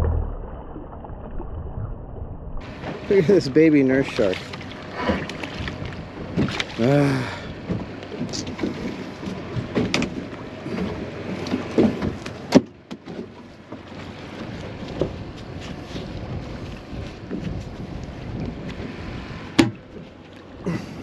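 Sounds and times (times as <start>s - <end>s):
wind: 0.0s - 21.0s
water lapping against hull: 2.6s - 21.0s.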